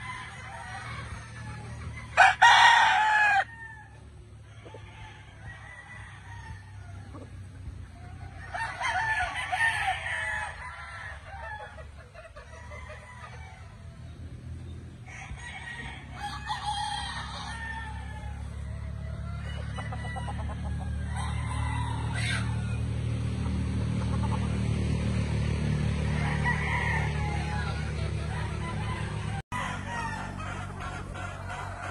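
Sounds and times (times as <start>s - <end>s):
roosters crowing: 0.0s - 31.9s.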